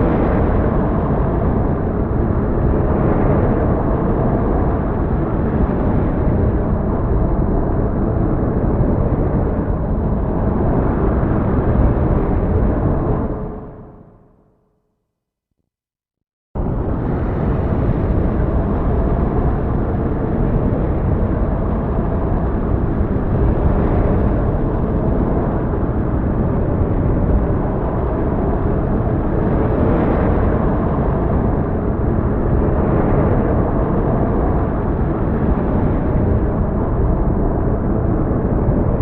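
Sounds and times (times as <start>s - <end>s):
heavy storm rumble: 0.0s - 14.0s, 16.6s - 39.0s.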